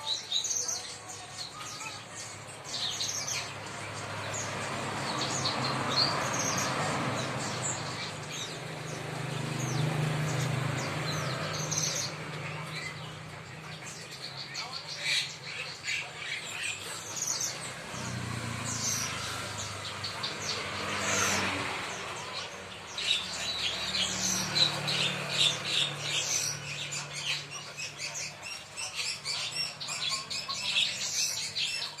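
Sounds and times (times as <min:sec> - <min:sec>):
caged birds chirping: 0:00.0 - 0:32.0.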